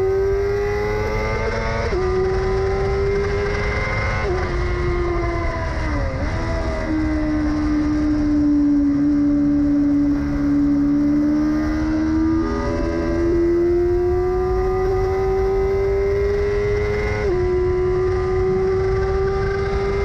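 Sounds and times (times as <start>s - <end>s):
motorcycle engine revving: 0.0s - 20.0s
wind rumble: 0.0s - 20.0s.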